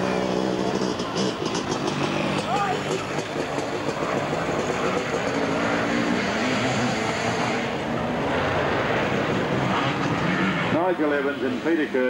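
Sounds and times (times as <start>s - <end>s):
sidecar motorcycle engine revving: 0.0s - 11.6s
race engines: 0.0s - 12.0s.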